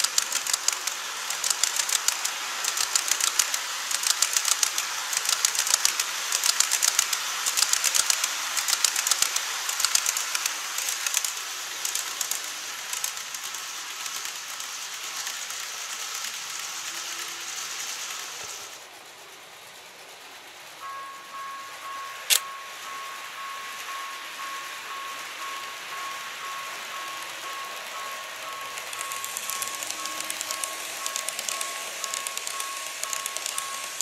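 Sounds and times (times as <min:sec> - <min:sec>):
model train wheels clattering: 0:00.0 - 0:34.0.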